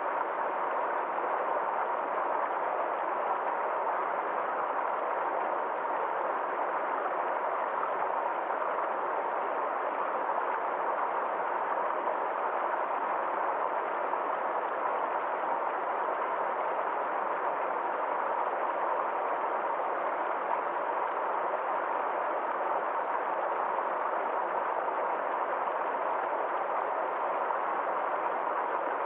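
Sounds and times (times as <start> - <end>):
forest stream flowing: 0.0 - 29.0.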